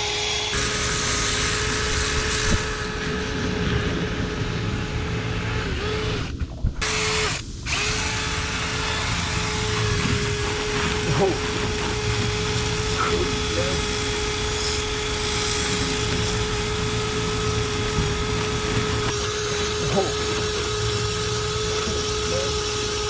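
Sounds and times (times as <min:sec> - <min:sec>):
drill motor whine: 0:00.0 - 0:23.0.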